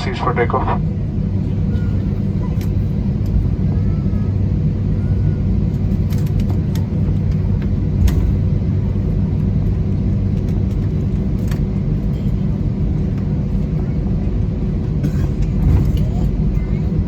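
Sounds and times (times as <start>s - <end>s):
aircraft engine hum and rumble: 0.0s - 17.0s.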